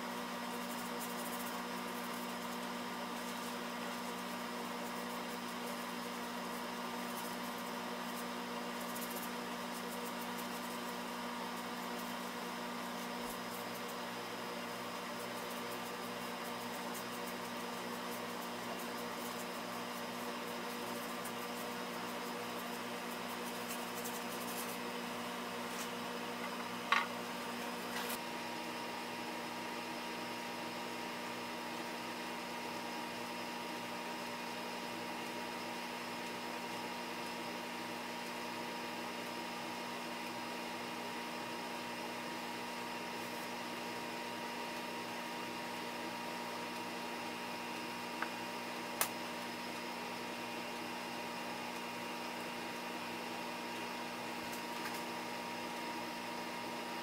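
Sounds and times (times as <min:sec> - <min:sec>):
shop machinery electric hum: 0:00.0 - 0:57.0.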